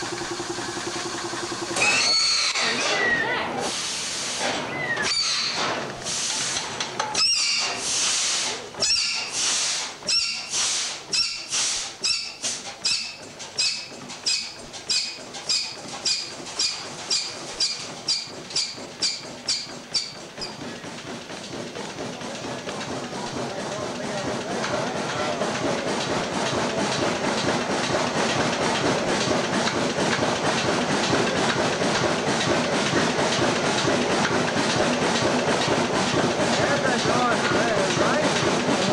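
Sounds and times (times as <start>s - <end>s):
stationary engine chuffing: 0.0s - 3.5s, 4.2s - 38.9s.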